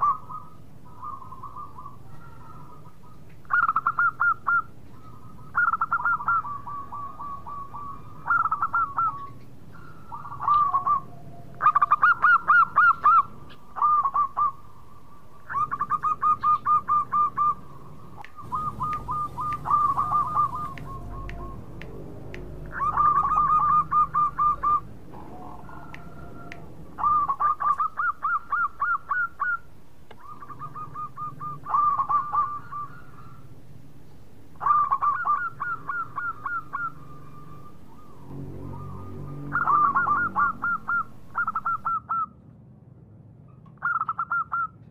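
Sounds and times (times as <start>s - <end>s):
doves cooing: 0.0s - 42.3s, 43.6s - 44.9s.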